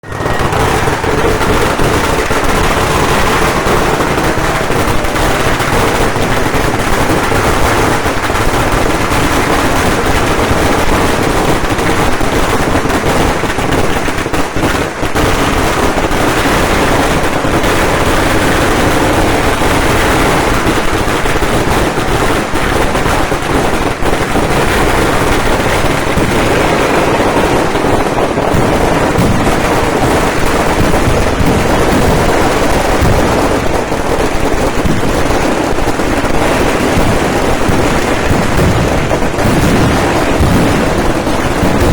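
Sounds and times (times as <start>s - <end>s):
firecrackers banging rapidly: 0.0s - 41.9s.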